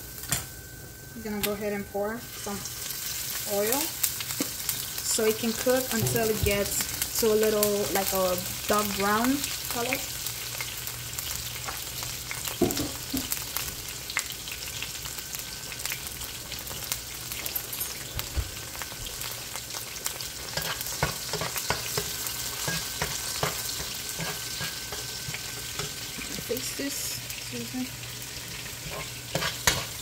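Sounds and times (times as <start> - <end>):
crackles and pops of frying: 0.0 - 30.0
onions sizzling in hot oil: 0.0 - 30.0.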